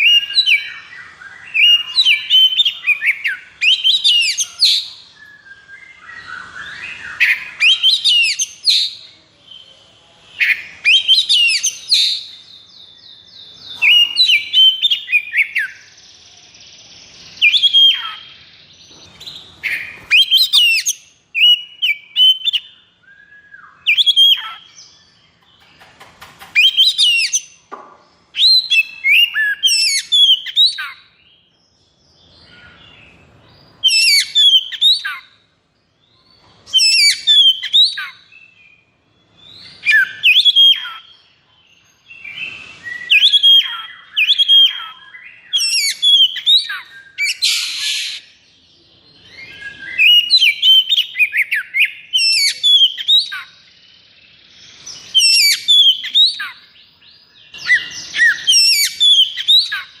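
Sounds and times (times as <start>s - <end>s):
bird singing whistled notes: 0.0s - 25.7s, 26.4s - 60.0s.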